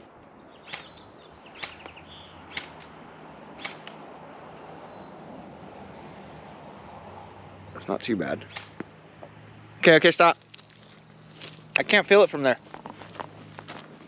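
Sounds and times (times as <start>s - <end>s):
bird chirping: 0.0s - 11.8s, 12.5s - 14.0s.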